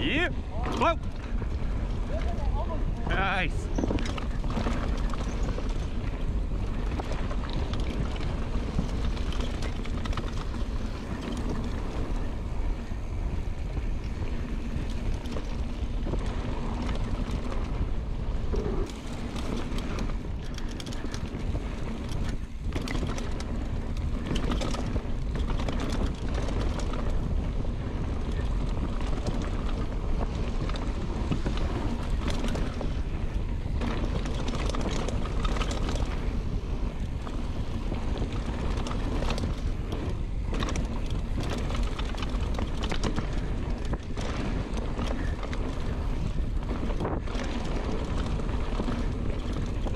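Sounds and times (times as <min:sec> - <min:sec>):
bike knocking and rattling over bumps: 0:00.0 - 0:49.9
bike tyres rolling over dirt: 0:00.0 - 0:49.9
wind buffeting microphone: 0:00.0 - 0:49.9.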